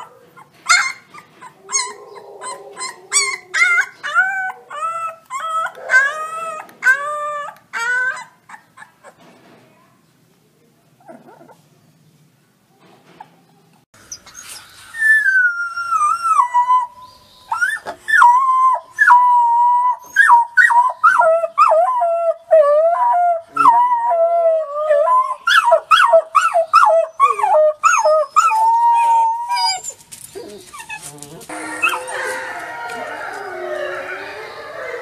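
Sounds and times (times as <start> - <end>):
wolf pups howling: 0.0 - 8.6, 15.0 - 35.0
wolf pups yipping: 0.0 - 9.2, 14.1 - 24.0, 24.6 - 35.0.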